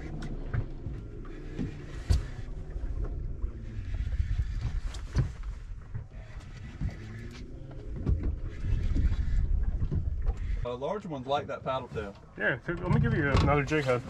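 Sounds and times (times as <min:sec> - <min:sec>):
water and wind rumble: 0:00.0 - 0:14.0.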